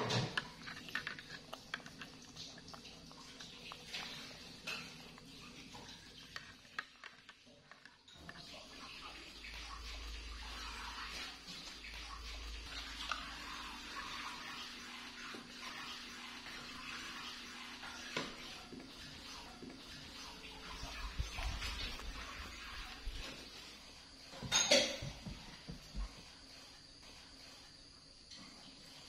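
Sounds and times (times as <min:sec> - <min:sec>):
running water hiss: 0:00.0 - 0:29.0.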